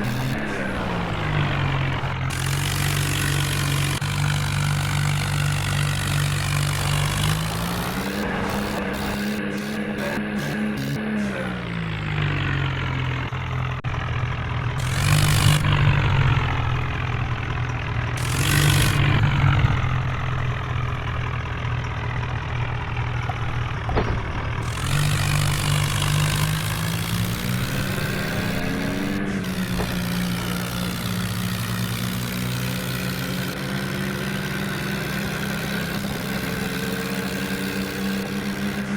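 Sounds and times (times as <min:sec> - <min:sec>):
tractor engine under load: 0:00.0 - 0:38.9.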